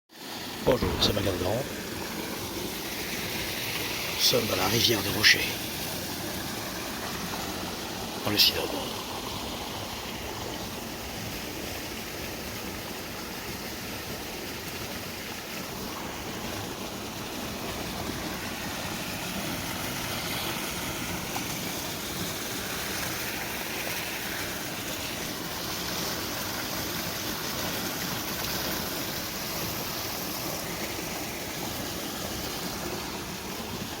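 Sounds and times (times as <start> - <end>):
water rushing over boulders: 0.1 - 34.0.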